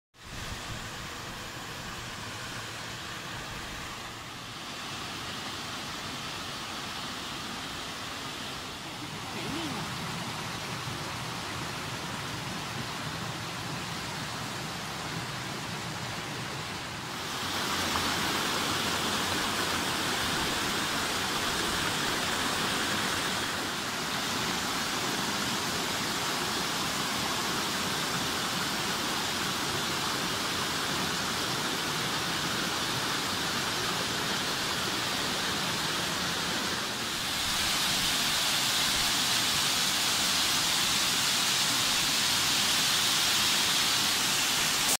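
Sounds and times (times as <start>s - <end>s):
stream and waterfall rushing: 0.2s - 45.0s.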